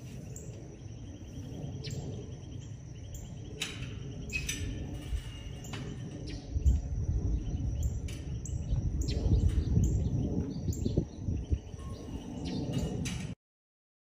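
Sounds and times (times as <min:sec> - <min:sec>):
uneven low rumble: 0:00.0 - 0:13.4.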